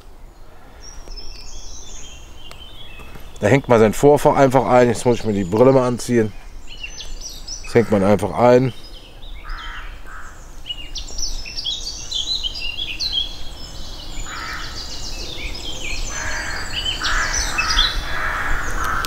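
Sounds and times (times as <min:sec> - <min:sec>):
lower rough bird calls: 0:00.0 - 0:19.0
songbirds chirping and trilling: 0:00.0 - 0:19.0.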